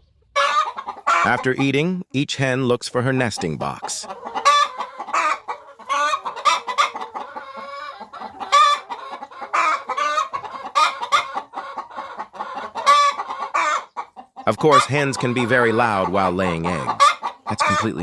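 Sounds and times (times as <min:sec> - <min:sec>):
hens clucking: 0:00.0 - 0:02.0, 0:02.9 - 0:18.0.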